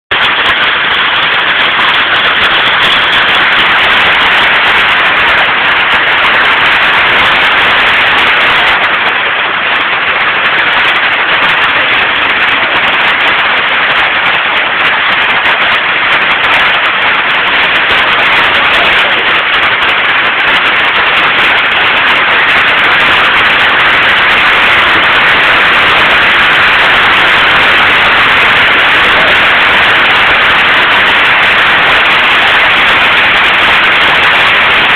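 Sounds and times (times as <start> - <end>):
hailstones clattering: 0.1 - 34.9.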